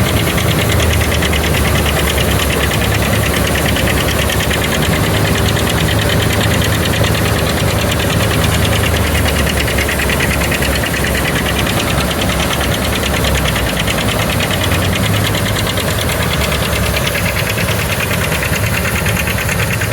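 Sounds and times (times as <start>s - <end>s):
harvester engine under load: 0.0s - 19.9s
mechanical clatter: 0.0s - 19.9s.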